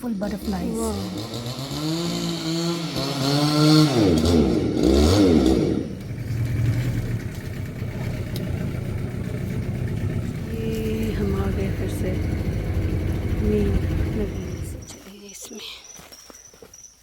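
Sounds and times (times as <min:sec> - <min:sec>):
outboard motor running: 0:00.0 - 0:14.9.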